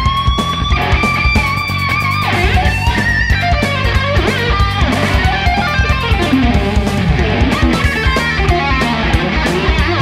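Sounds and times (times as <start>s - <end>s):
bass guitar: 0.0s - 10.0s
distorted electric guitar lead: 0.0s - 10.0s
drums: 0.0s - 10.0s.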